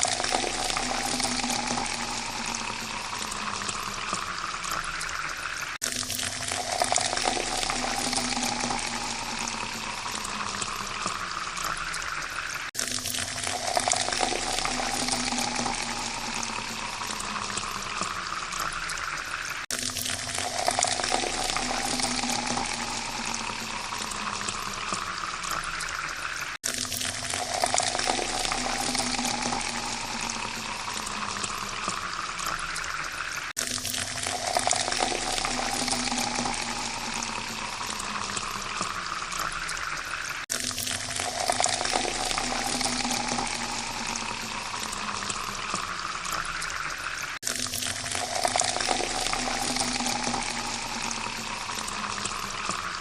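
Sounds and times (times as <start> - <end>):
water pouring into a glass: 0.0 - 53.0.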